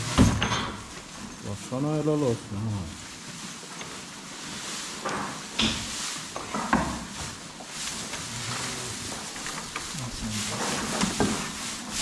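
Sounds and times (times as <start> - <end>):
rustling and scraping handling noise: 0.0 - 12.0.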